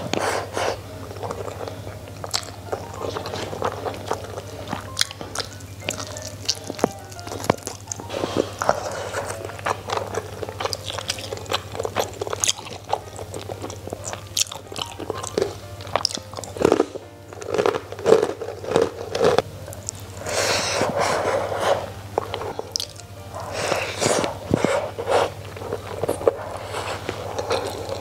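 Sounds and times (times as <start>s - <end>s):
chewing crunchy food: 0.0s - 28.0s.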